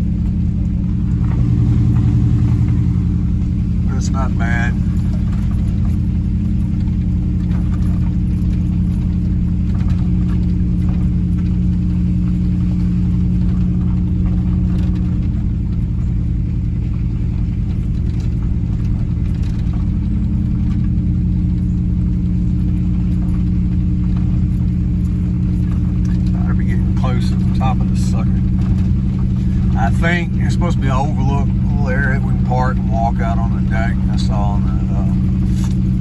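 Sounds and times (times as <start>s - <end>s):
truck engine drone: 0.0s - 36.0s.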